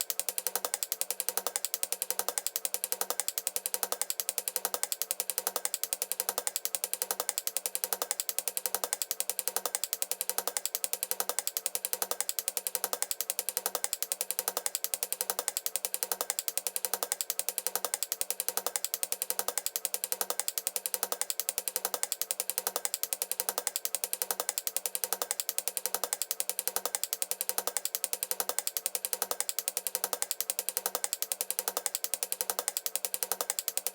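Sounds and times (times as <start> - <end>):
rapid ratchet-like clicking: 0.0 - 33.9.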